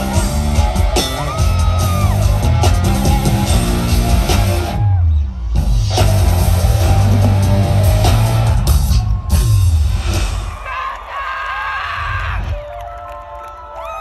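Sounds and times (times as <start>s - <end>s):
loud bass-heavy concert music: 0.0s - 12.8s.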